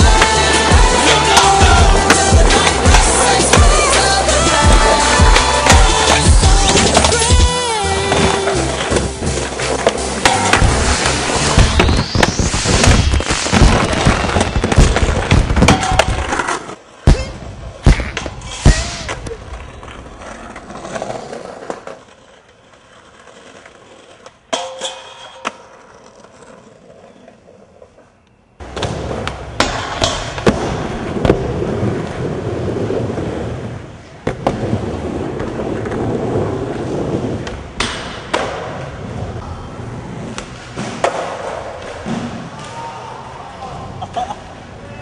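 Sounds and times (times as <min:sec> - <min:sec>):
skateboard wheels rolling on pavement: 0:00.0 - 0:17.0, 0:17.6 - 0:24.5, 0:25.4 - 0:42.6.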